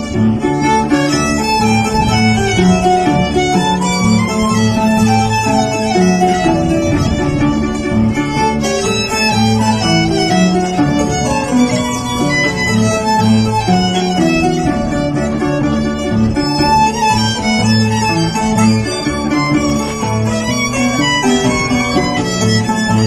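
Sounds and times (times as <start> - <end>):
harp playing: 0.0 - 23.0
violin melody: 0.0 - 23.0.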